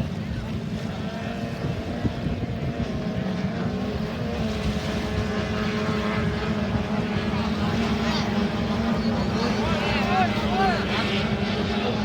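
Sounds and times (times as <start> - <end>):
outboard motors running: 0.0 - 12.0.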